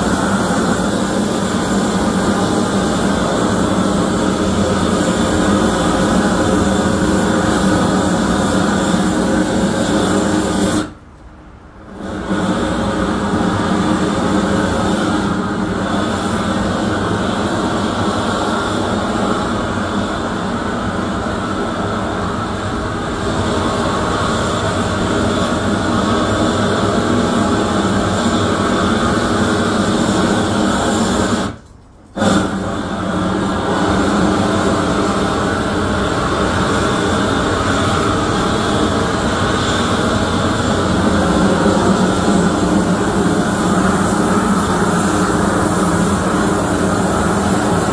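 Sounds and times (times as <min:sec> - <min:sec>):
propane torch roaring: 0:00.0 - 0:47.9.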